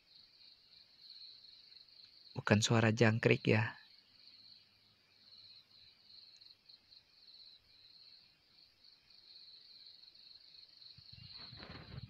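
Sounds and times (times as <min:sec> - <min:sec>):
faint crickets chirring: 0:00.0 - 0:12.0.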